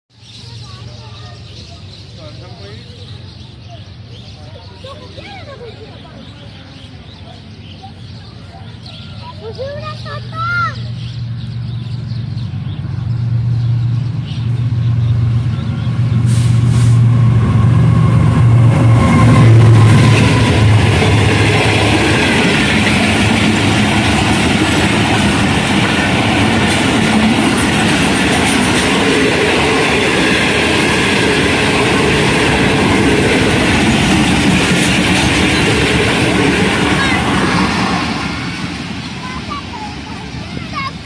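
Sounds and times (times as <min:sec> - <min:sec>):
diesel locomotive engine drone: 0:00.1 - 0:41.0
train wheels rumbling on track: 0:00.1 - 0:41.0.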